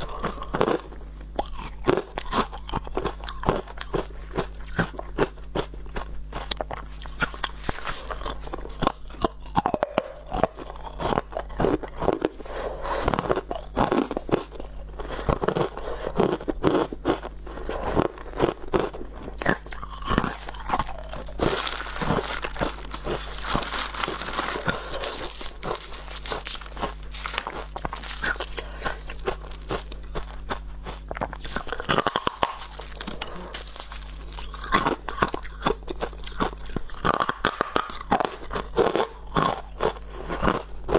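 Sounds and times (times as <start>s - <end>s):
ice crunching between teeth: 0.0s - 40.9s.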